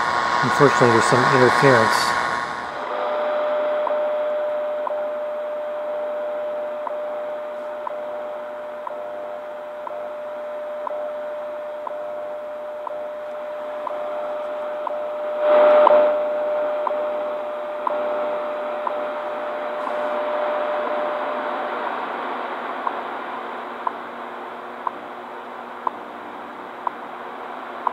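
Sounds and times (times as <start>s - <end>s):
shortwave static: 0.0s - 27.9s
steady radio tone: 0.0s - 27.9s.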